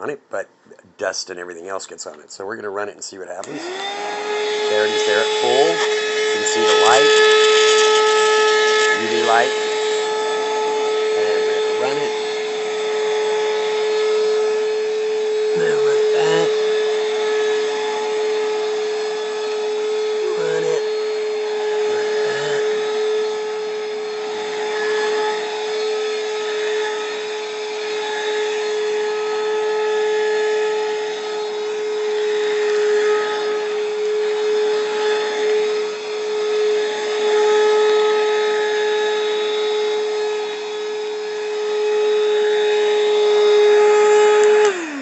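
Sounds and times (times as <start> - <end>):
handheld vacuum motor whine: 3.4 - 45.0.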